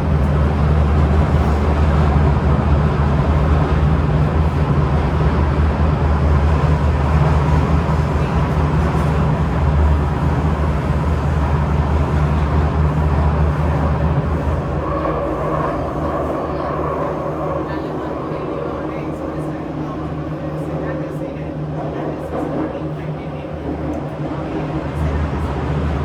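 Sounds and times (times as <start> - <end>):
metro train rumble: 0.0 - 26.0.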